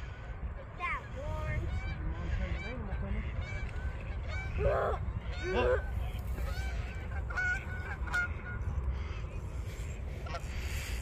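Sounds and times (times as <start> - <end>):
geese honking: 1.0 - 11.0.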